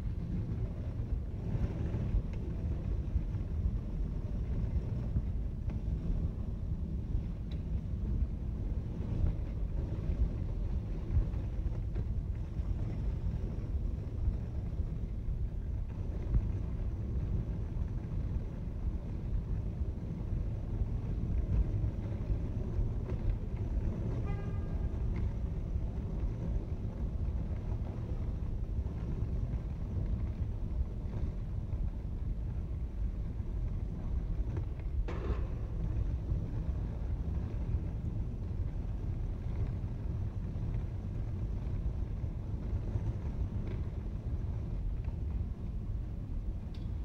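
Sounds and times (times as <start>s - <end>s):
low rumble in parking garage: 0.0s - 47.0s.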